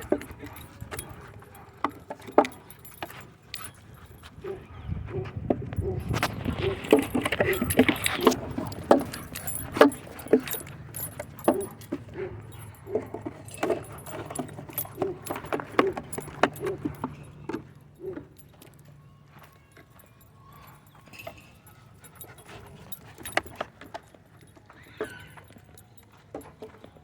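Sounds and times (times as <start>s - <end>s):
metallic jingling and clicking: 0.0s - 4.7s, 5.7s - 27.0s.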